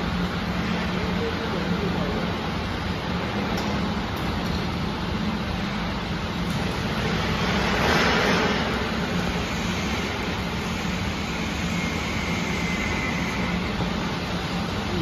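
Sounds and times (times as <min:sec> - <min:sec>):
factory machinery running: 0:00.0 - 0:15.0.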